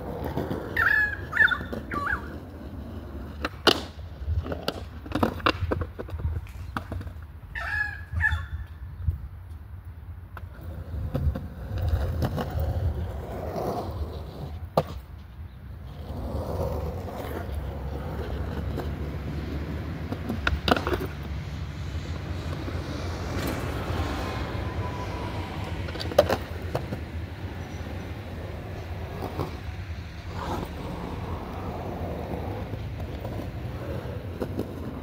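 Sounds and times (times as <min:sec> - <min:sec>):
skateboard clack: 0:00.0 - 0:07.4, 0:10.3 - 0:35.0
skateboard wheels rolling on concrete: 0:00.0 - 0:35.0.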